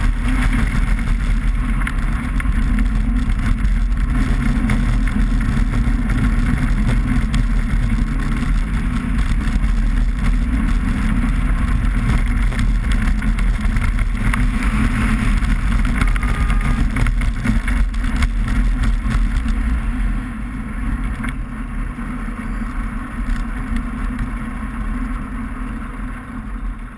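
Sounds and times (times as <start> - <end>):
car engine running: 0.0 - 26.9
wind noise: 0.0 - 26.9.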